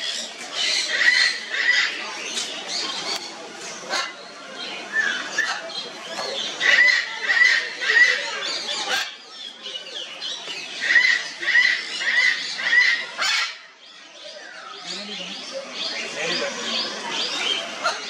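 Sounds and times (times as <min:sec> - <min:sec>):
parrots squawking and chattering: 0:00.0 - 0:18.0.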